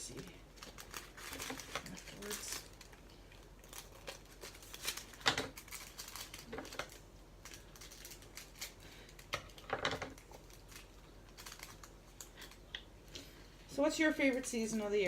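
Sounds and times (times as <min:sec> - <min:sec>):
plastic crinkling: 0:00.0 - 0:13.2.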